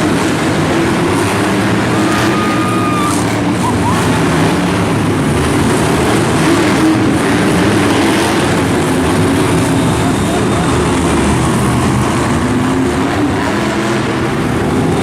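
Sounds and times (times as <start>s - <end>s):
truck engine running loud: 0.0s - 15.0s.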